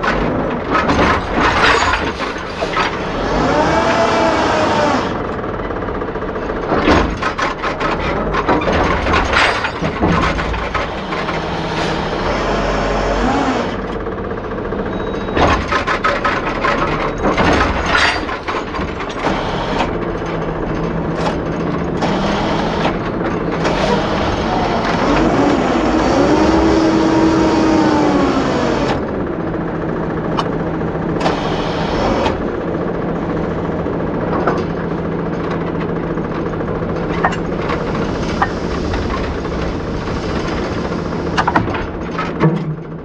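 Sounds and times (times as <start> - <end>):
metallic clanks and rattles: 0.0 - 3.2, 5.2 - 12.3, 13.7 - 27.4, 32.3 - 43.0
diesel truck engine running: 0.0 - 43.0.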